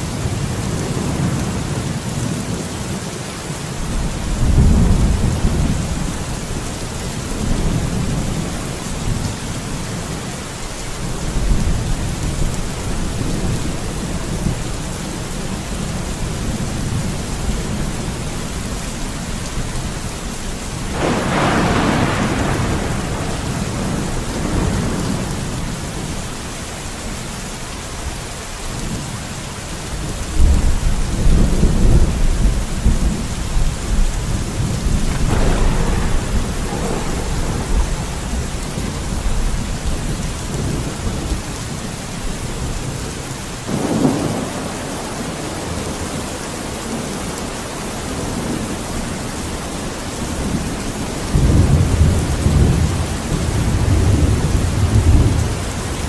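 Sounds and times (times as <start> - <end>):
steady rain falling: 0.0 - 56.0
thunder rumbling: 3.8 - 27.2, 29.9 - 46.2, 49.8 - 56.0.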